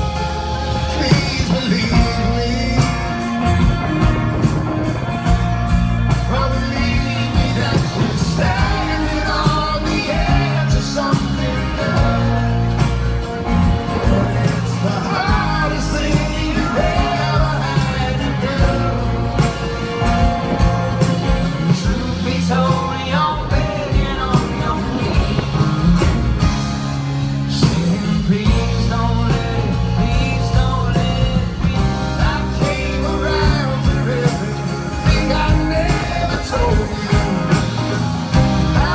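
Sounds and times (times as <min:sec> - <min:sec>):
person singing: 0:00.0 - 0:04.1, 0:06.1 - 0:26.6, 0:27.5 - 0:38.9
rock band playing: 0:00.0 - 0:38.9.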